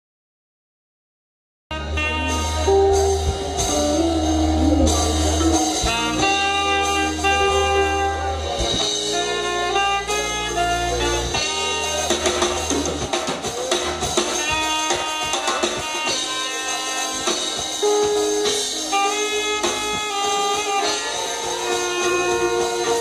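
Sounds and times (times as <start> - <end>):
live band playing: 1.7 - 23.0
saxophone: 1.7 - 23.0.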